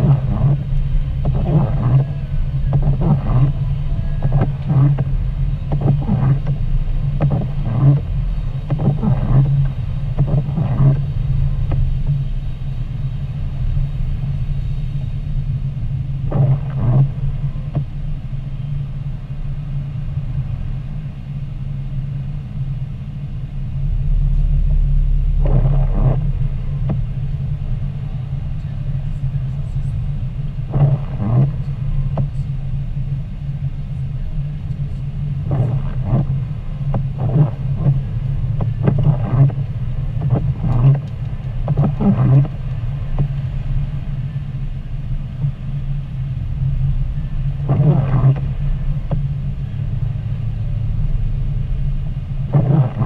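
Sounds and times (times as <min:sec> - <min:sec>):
car engine and tyres on wet road: 0:00.0 - 0:53.0.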